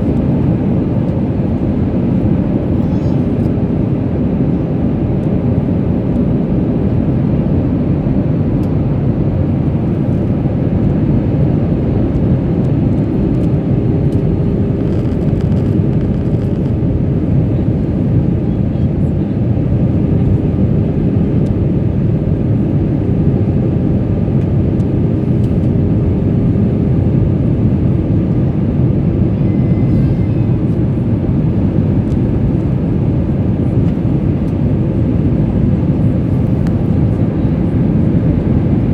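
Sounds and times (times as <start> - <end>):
airliner cabin engine noise: 0.0 - 38.9.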